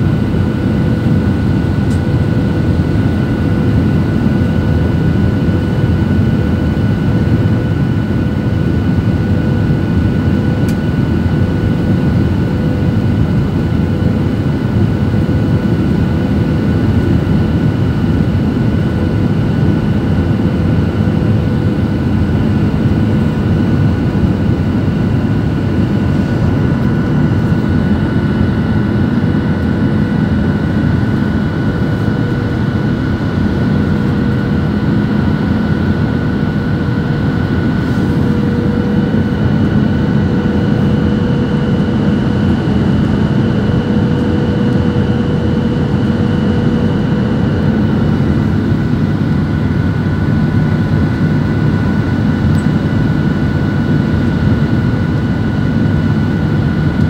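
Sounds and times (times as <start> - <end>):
faint steady whine: 0.0 - 57.0
jet engines roaring in cabin: 0.0 - 57.0.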